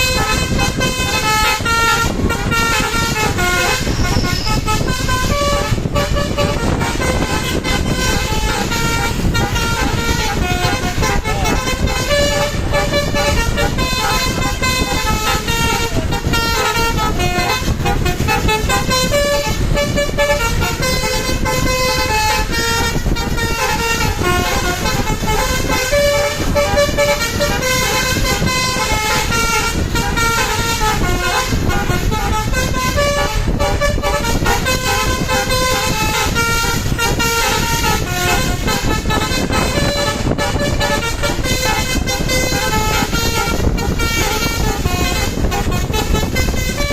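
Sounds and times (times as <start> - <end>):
engine and road noise: 0.0 - 46.9
musical air horn melody: 0.0 - 46.9.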